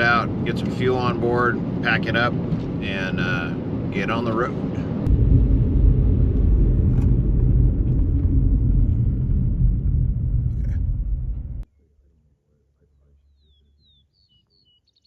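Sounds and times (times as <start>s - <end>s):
vehicle rumble: 0.0s - 13.2s.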